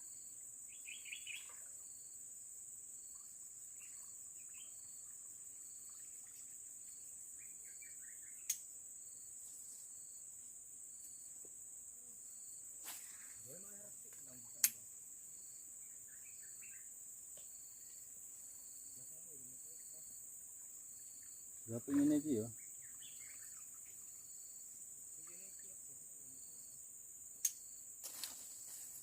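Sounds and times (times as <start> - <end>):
insects high-pitched drone: 0.0 - 29.0
pulsing insect call: 0.0 - 29.0.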